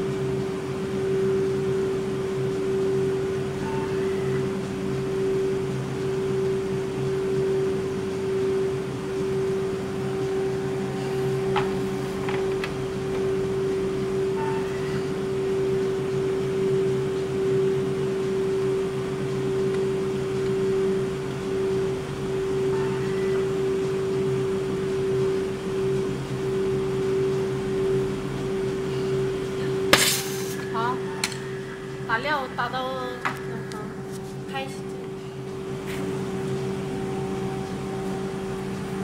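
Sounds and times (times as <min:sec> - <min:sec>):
ice cream machine humming: 0:00.0 - 0:39.0.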